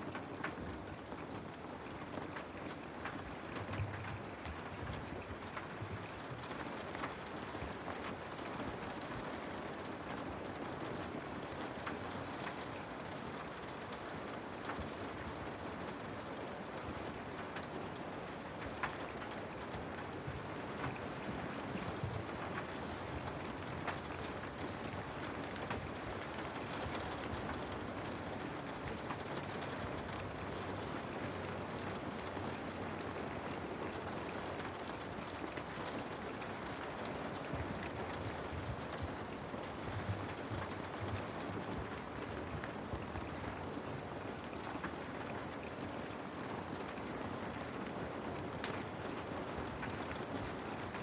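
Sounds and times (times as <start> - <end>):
raindrops ticking on glass: 0.0 - 51.0
steady rain: 0.0 - 51.0.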